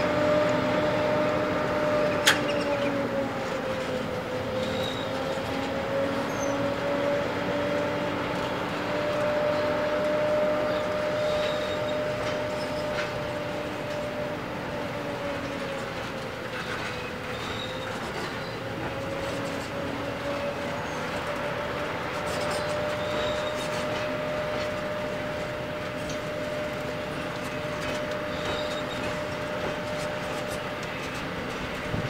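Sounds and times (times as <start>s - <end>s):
wagon wheels rumbling on rails: 0.0s - 32.0s.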